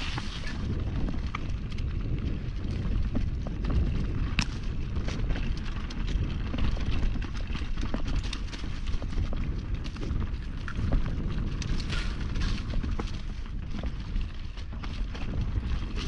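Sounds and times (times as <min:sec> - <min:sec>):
bike clicks and rattles: 0:00.0 - 0:16.0
tyres over dirt and rocks: 0:00.0 - 0:16.0
wind rumble on microphone: 0:00.0 - 0:16.0.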